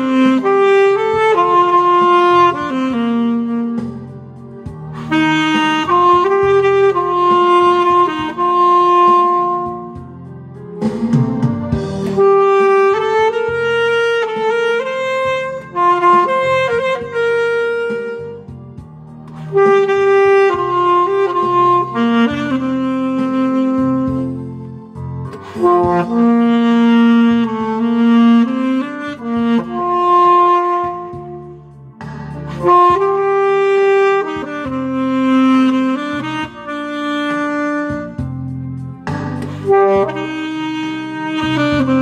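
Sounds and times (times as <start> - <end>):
backing accompaniment: 0.0 - 42.0
saxophone melody: 0.0 - 42.0.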